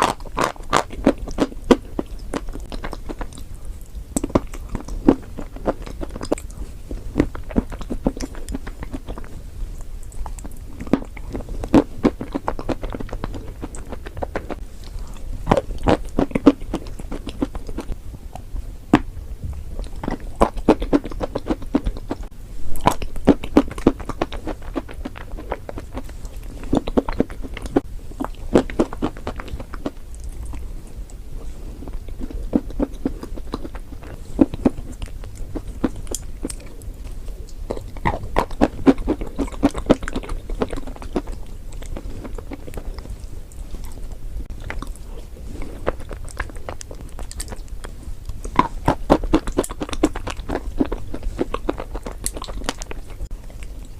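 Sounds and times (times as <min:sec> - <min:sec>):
chewing crunchy chalk: 0:00.0 - 0:53.9.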